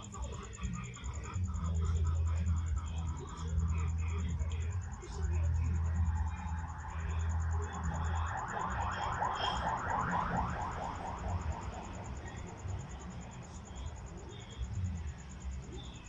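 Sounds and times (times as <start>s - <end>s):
insects chirping: 0.0s - 16.0s
low hum: 0.0s - 16.0s
low pulsed trill: 0.0s - 16.0s.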